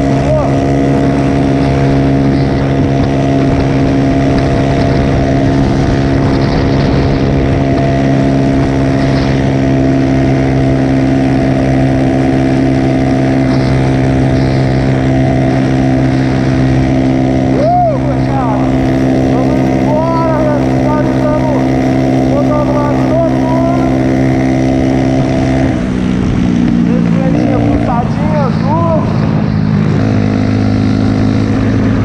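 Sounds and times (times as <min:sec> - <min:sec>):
motorcycle engine cruising: 0:00.0 - 0:32.0
road and wind noise: 0:00.0 - 0:32.0.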